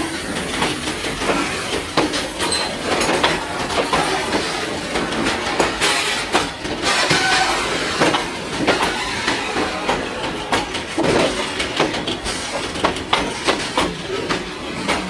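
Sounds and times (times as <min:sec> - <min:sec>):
freight train rolling past: 0:00.0 - 0:15.0
wheels clacking over rail joints: 0:00.0 - 0:15.0.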